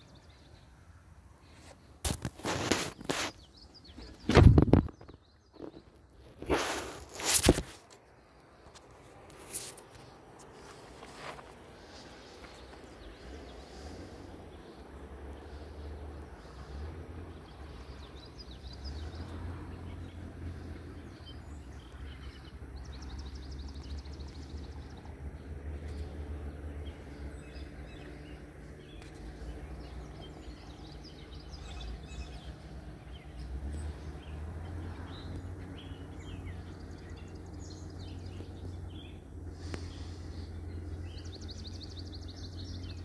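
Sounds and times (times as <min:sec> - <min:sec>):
songbirds calling and chirping: 0:00.0 - 0:43.0.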